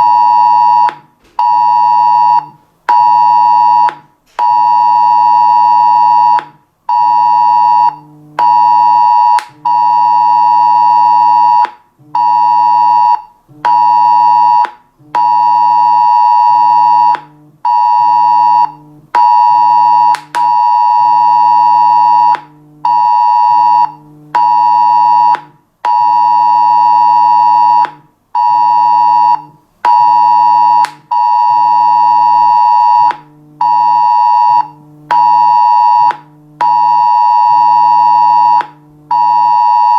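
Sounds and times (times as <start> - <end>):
phone alert tone: 0.0 - 39.9.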